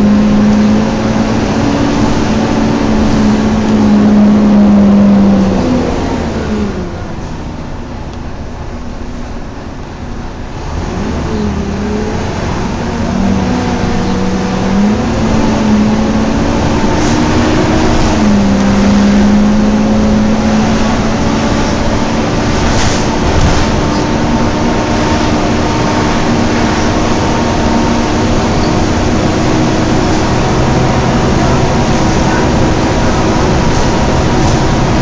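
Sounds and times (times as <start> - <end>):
bus engine whine: 0.0 - 35.0.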